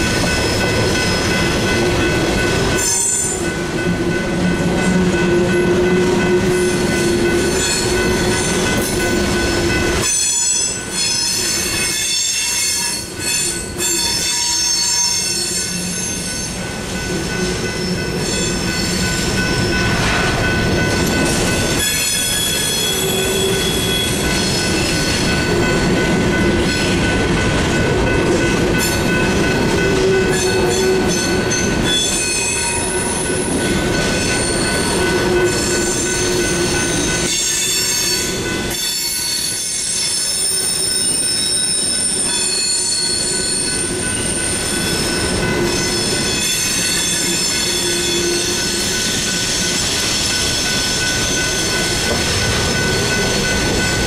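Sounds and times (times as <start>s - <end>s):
train wheels squealing: 0.2s - 1.6s, 2.8s - 3.5s, 5.9s - 9.2s, 10.0s - 25.6s, 29.8s - 54.0s.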